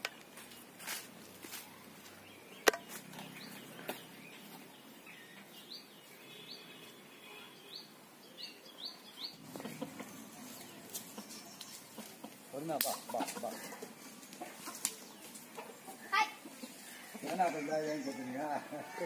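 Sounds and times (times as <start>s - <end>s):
small birds chirping: 0.0s - 18.8s.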